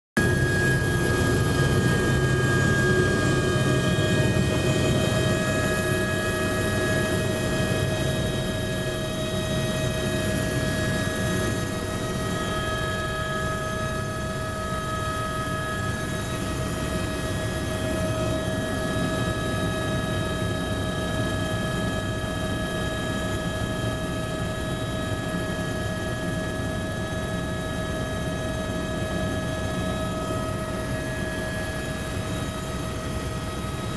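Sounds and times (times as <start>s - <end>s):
helicopter low rumble: 0.2s - 33.9s
helicopter turbine whine: 0.2s - 33.9s.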